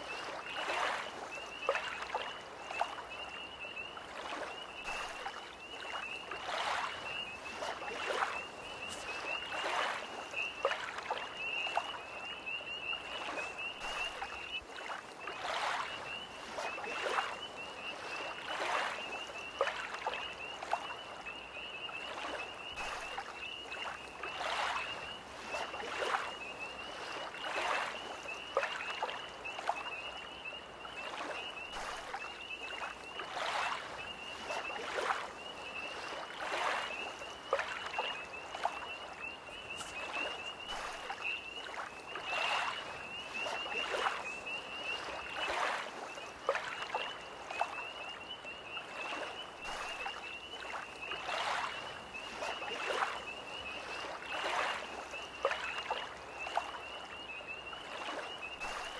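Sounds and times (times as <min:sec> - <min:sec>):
tree frogs trilling: 0:00.0 - 0:58.9
waves lapping on shore: 0:00.0 - 0:58.9.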